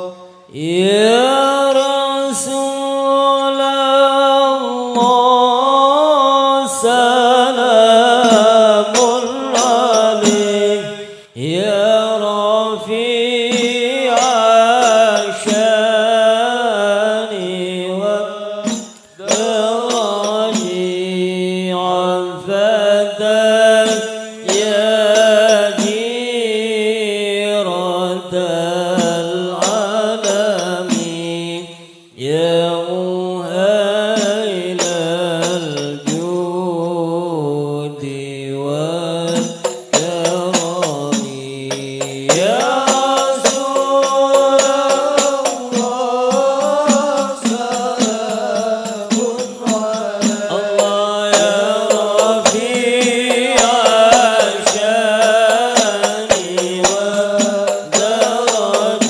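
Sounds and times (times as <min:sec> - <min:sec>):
men chanting: 0:00.0 - 0:59.0.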